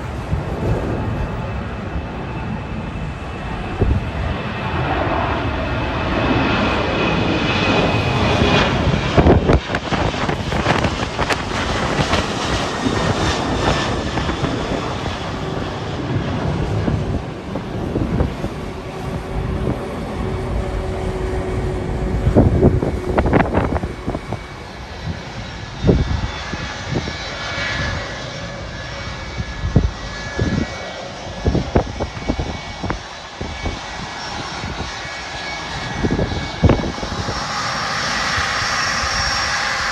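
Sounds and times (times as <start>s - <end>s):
jet airliner engines passing: 0.0s - 39.9s
wind gusts on microphone: 0.0s - 39.9s.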